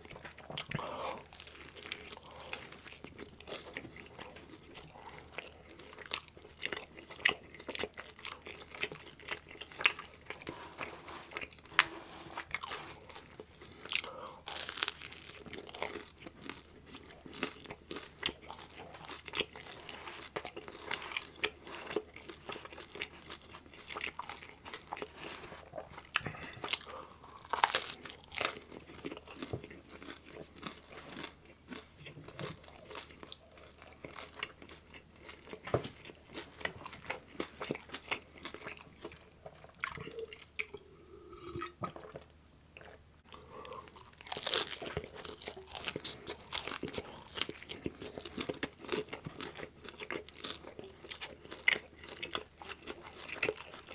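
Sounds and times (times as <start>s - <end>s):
chewing and crunching: 0.0s - 53.9s.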